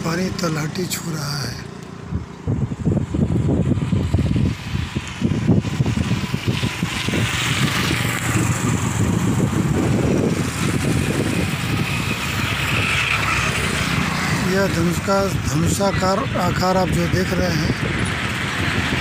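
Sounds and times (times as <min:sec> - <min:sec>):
motorcycles passing: 0:00.0 - 0:19.0
road traffic rumble: 0:00.0 - 0:19.0
wind buffeting microphone: 0:02.0 - 0:19.0.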